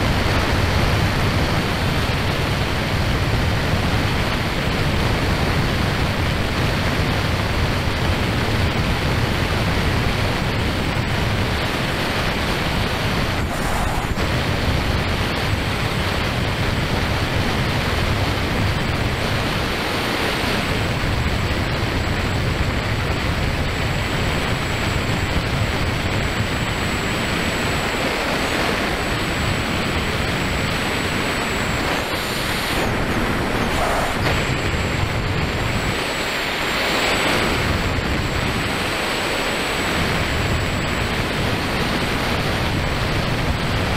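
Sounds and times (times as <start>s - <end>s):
motorcycle riding noise: 0.0s - 43.9s
wind buffeting microphone: 0.0s - 43.9s.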